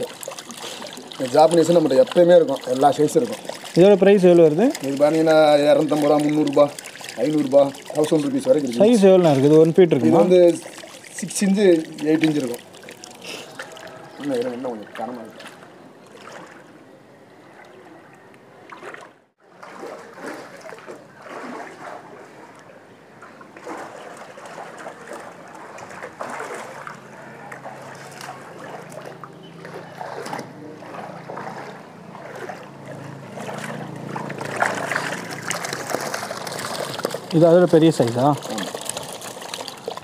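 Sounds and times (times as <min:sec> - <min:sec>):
fish thrashing in water: 0:00.0 - 0:16.7, 0:17.6 - 0:22.4, 0:23.3 - 0:40.0
water splashing and sloshing: 0:00.0 - 0:40.0.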